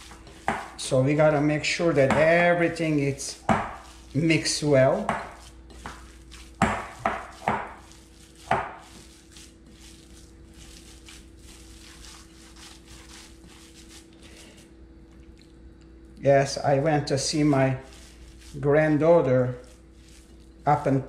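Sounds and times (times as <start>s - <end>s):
hands squishing food: 0.0s - 1.3s, 1.9s - 16.2s, 17.1s - 21.0s.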